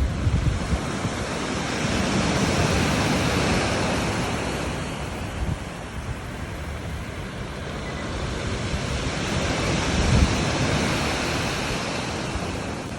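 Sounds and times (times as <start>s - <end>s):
waves washing on shore: 0.0s - 12.9s
wind rumbling on microphone: 0.0s - 12.9s.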